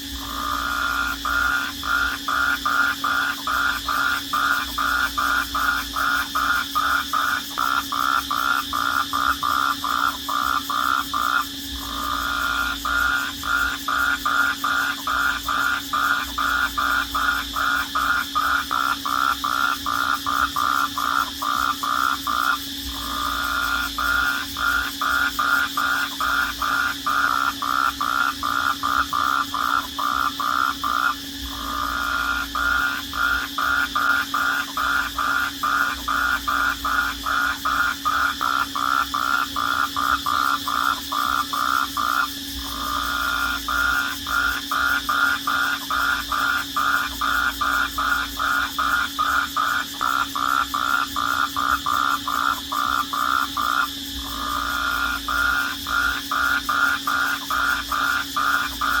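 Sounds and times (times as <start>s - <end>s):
crickets chirping: 0.0s - 59.0s
steady high hum: 0.0s - 59.0s.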